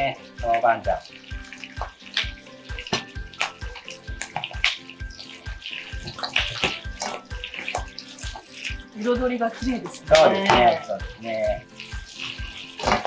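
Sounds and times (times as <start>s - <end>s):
background music with steady beat: 0.0s - 13.0s
food sizzling in frying pan: 0.0s - 13.0s
tongs tossing food: 0.4s - 13.0s.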